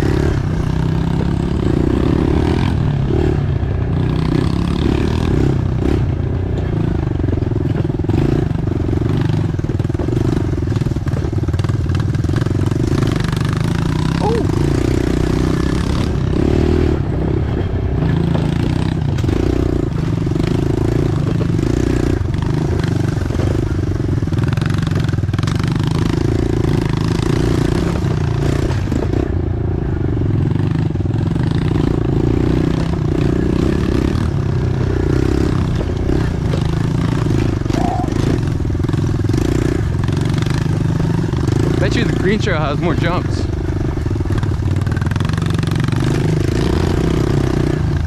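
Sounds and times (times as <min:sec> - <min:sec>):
pit bike engines revving: 0:00.0 - 0:48.0.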